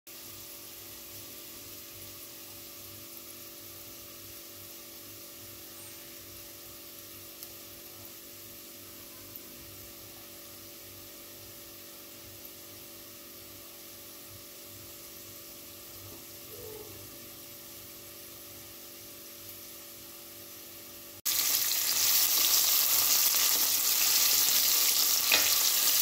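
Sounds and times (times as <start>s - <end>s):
onions and spices sizzling in oil: 0.1s - 26.0s.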